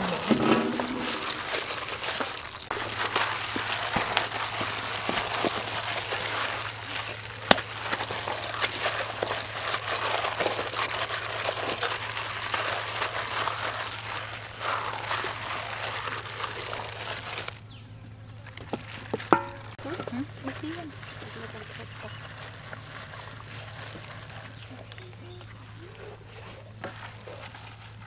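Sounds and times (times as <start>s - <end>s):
raw meat squishing: 0.0s - 17.6s, 18.4s - 28.0s
plastic glove crinkling: 0.0s - 17.7s, 18.4s - 28.0s.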